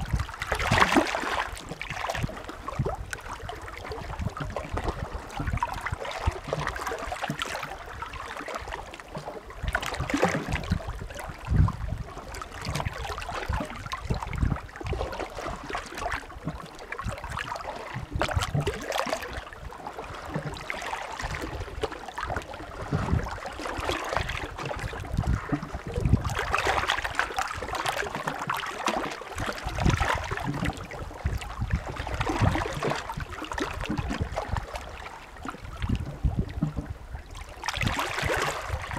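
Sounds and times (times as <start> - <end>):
sea waves lapping at shore: 0.0 - 38.9.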